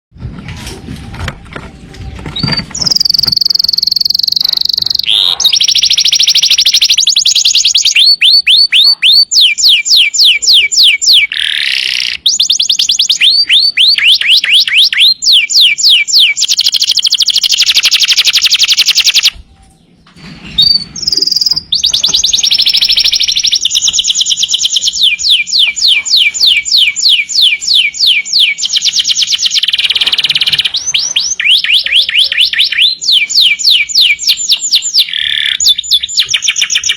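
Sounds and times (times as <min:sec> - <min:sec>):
canary singing trills: 0:02.0 - 0:36.9.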